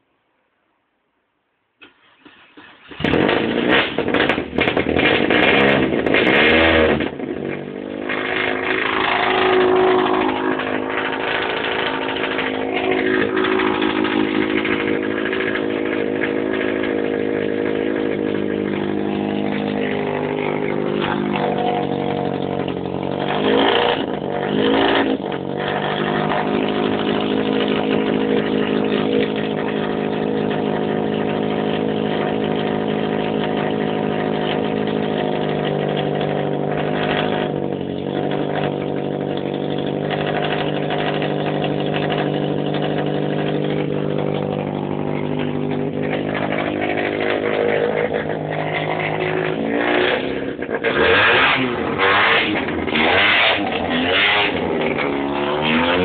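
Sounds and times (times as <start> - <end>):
rally car engine revving and idling: 1.8 - 56.0.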